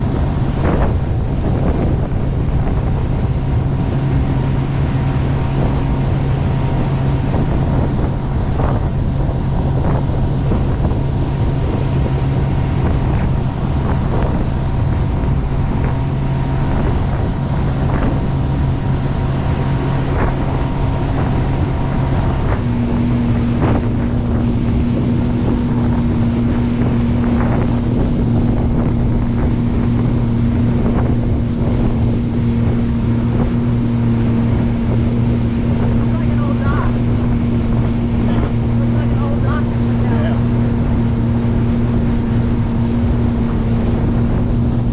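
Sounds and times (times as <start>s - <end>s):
boat engine drone: 0.0s - 44.9s
wind buffeting microphone: 0.0s - 44.9s.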